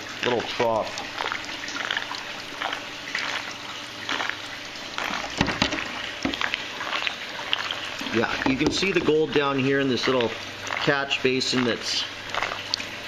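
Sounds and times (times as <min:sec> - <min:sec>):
water running and trickling: 0:00.0 - 0:13.0.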